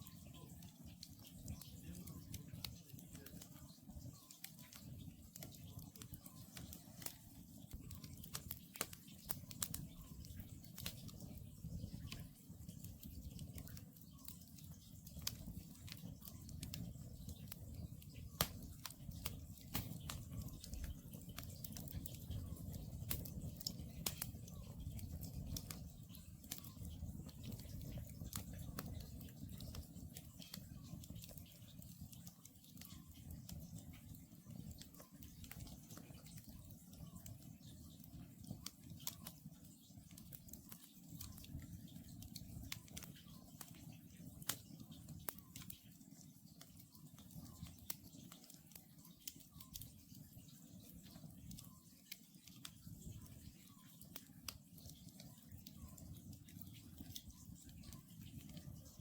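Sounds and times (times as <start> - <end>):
campfire crackling and popping: 0.0 - 59.0
low rumble of burning logs: 0.0 - 59.0.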